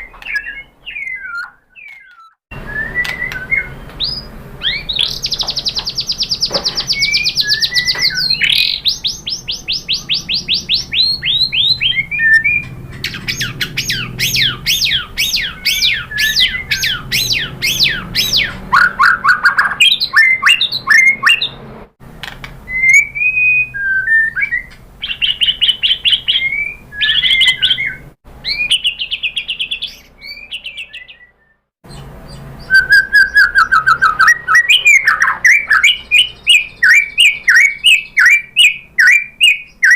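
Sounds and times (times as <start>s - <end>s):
bird singing trills and whistles: 0.0s - 21.6s, 22.7s - 39.9s.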